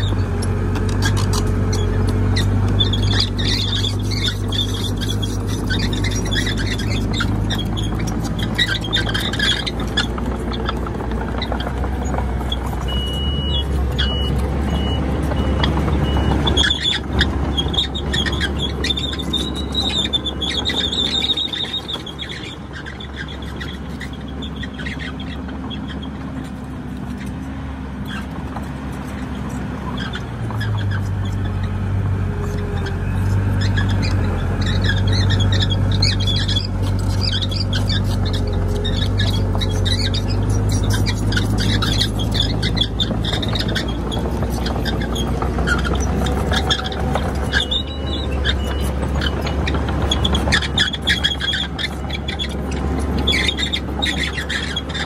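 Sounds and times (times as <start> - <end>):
metallic track squeals: 0.0 - 27.4, 28.0 - 55.0
bulldozer diesel engine: 0.0 - 55.0.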